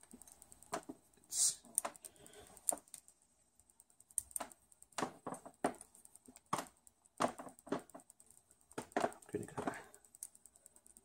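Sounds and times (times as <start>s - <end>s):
stylus tapping on touchscreen: 1.7s - 11.0s.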